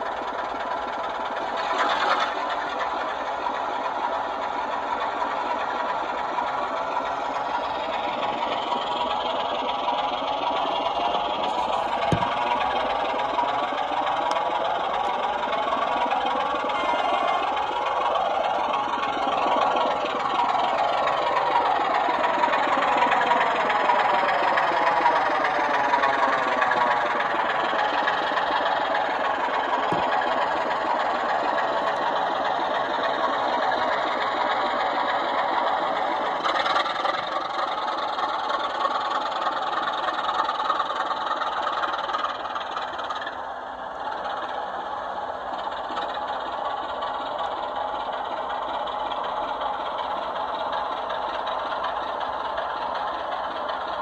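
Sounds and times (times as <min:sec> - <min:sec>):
model diesel engine sound: 0:00.0 - 0:54.0
wheels rumbling on track: 0:00.0 - 0:54.0.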